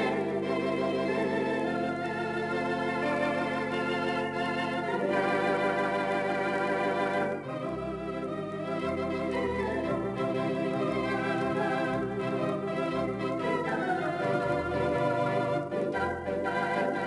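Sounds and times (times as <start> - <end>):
theatre organ chords: 0.0 - 17.0.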